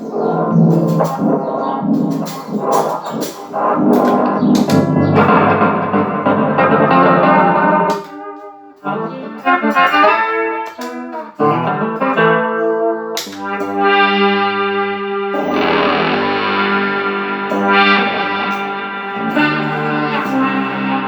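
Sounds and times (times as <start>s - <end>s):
electric guitar chords and notes: 0.0s - 21.0s.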